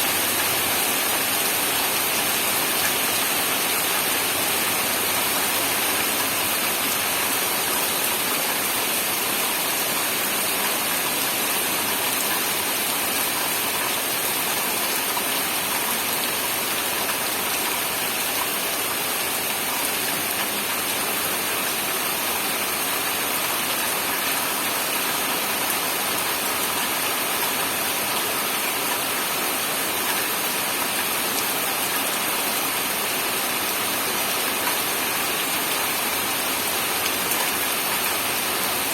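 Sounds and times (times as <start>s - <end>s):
steady heavy rain: 0.0s - 38.9s.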